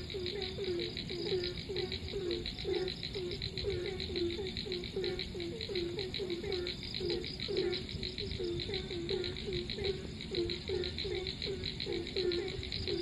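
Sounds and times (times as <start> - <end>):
fast high pulsing chirr: 0.0 - 13.0
frogs croaking: 0.0 - 13.0.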